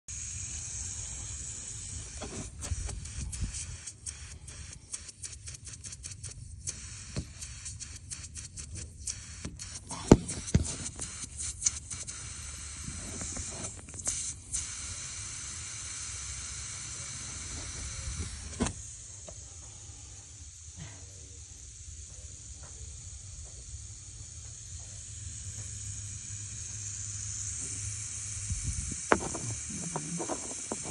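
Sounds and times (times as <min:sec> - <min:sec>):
water hissing from pipe leak: 0:00.1 - 0:30.9.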